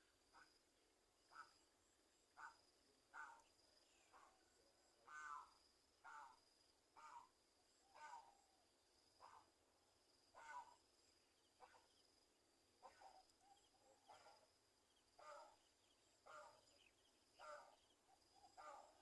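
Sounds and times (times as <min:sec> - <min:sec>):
faint bird calls: 0:01.3 - 0:01.7, 0:02.3 - 0:09.6, 0:10.3 - 0:12.1, 0:12.8 - 0:19.0.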